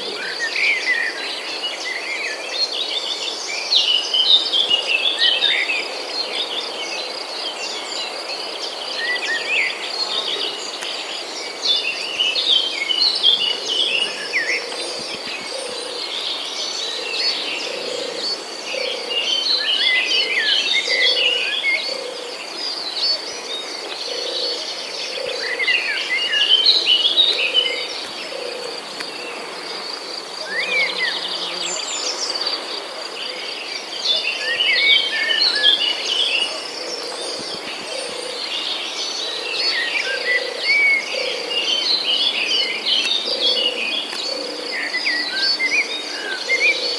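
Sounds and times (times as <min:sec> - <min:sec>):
birds chirping and singing: 0:00.0 - 0:46.9.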